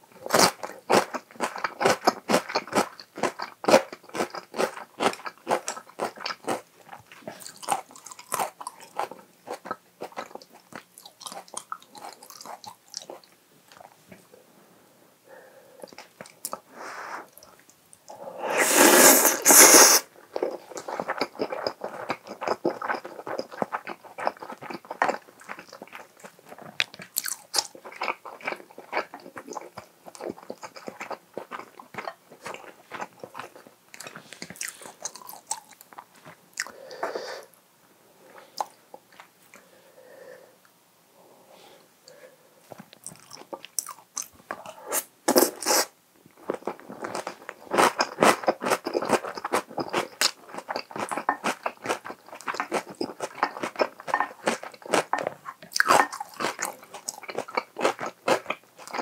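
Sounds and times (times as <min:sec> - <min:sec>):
person chewing and crunching food: 0:00.0 - 0:14.2, 0:15.8 - 0:37.5, 0:38.2 - 0:39.7, 0:42.6 - 0:59.0.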